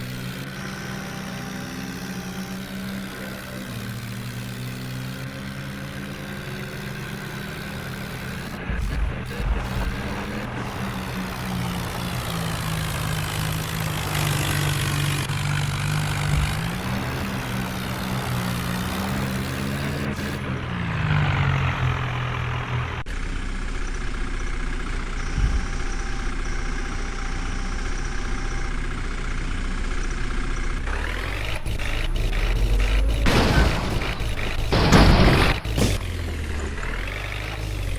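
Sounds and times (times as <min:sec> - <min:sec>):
heavy diesel machinery engines: 0:00.0 - 0:37.9.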